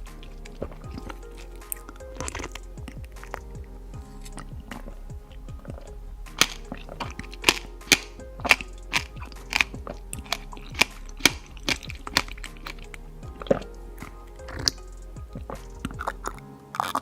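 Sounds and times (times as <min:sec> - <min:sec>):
crunching while eating: 0:00.0 - 0:03.5, 0:04.3 - 0:13.7, 0:15.4 - 0:17.0
background music: 0:00.0 - 0:17.0.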